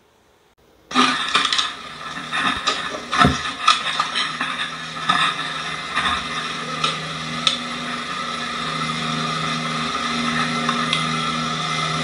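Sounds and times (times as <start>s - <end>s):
steady mechanical hum: 0.0s - 12.0s
sharp cracks: 0.9s - 11.3s.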